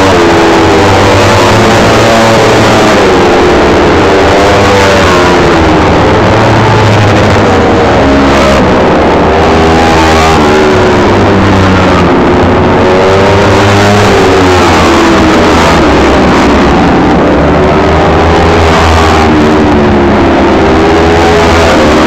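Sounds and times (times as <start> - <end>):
race motorcycles revving and passing: 0.0 - 22.0.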